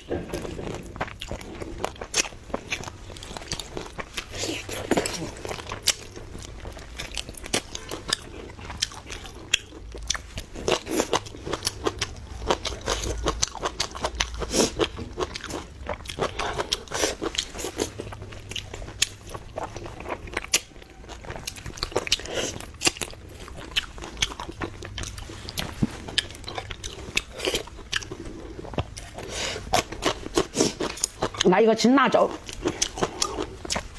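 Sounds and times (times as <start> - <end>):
person chewing crunchy food: 0.0 - 31.6, 32.2 - 33.9.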